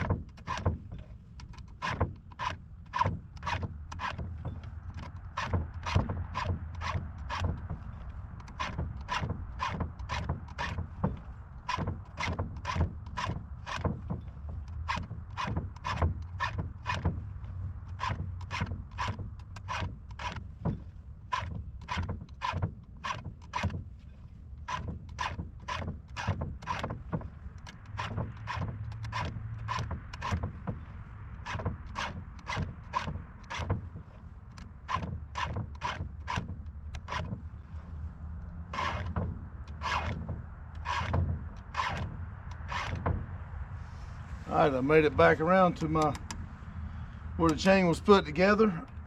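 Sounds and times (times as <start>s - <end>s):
file rasping across chain: 0.0s - 17.3s, 17.9s - 23.8s, 24.6s - 37.9s, 38.7s - 43.2s.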